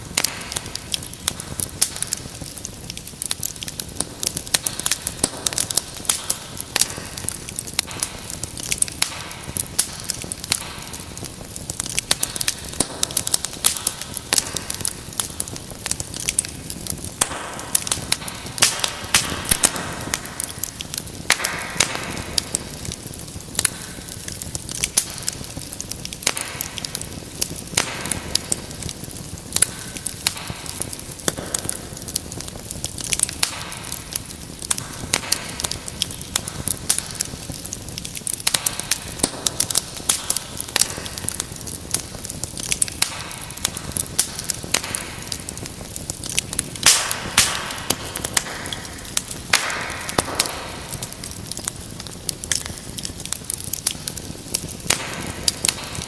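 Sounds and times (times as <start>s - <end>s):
fire popping and snapping: 0.0s - 56.0s
fireplace fire crackling: 0.0s - 56.0s
flame hissing: 0.0s - 56.0s
hissing fire flare-ups: 0.0s - 56.0s.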